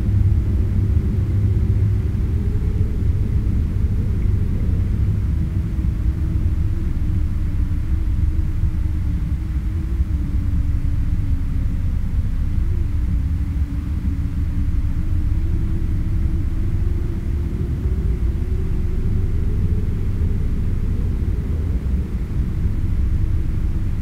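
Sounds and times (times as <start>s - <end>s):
dark ambient drone: 0.0s - 24.0s.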